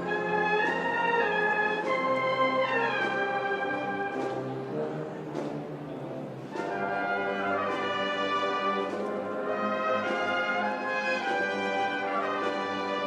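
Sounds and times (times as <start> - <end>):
brass band playing march: 0.0 - 13.0.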